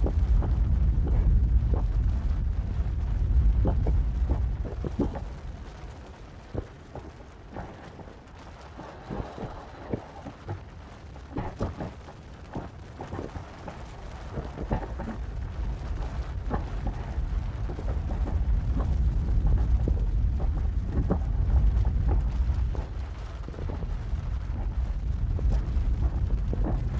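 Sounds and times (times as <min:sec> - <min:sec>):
deep volcanic rumble: 0:00.0 - 0:26.9.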